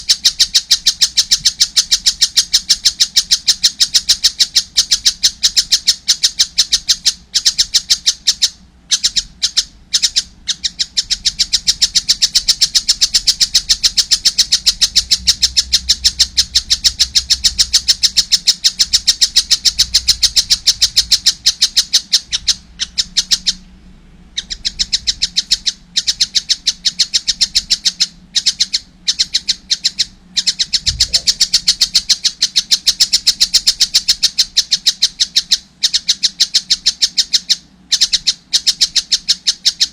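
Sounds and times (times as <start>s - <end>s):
kingfisher chattering call: 0.0s - 23.6s, 24.4s - 39.9s.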